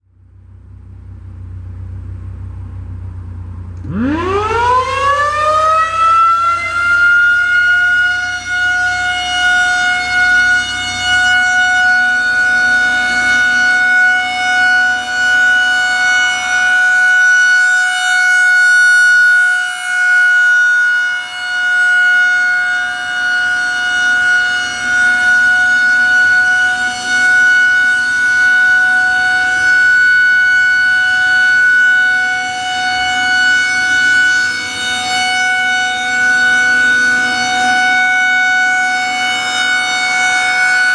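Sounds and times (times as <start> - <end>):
outdoor warning siren wailing: 3.8 - 40.9.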